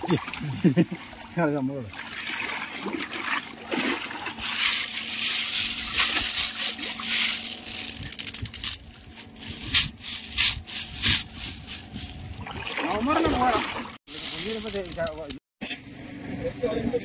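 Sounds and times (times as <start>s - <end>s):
water splashing and sloshing: 0.0s - 16.4s.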